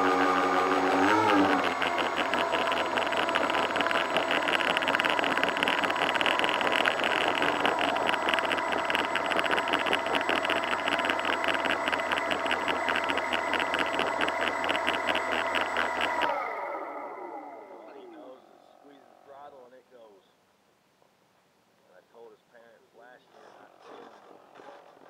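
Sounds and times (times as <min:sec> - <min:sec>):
model plane motors running: 0:00.0 - 0:18.4, 0:23.3 - 0:25.0.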